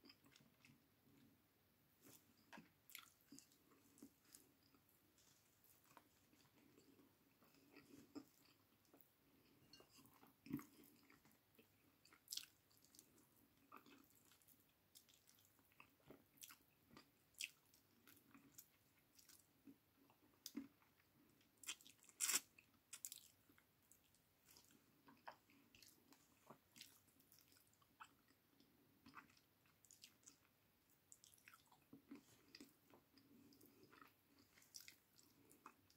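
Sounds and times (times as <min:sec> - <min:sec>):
person chewing food: 0:00.0 - 0:01.3, 0:02.0 - 0:35.9.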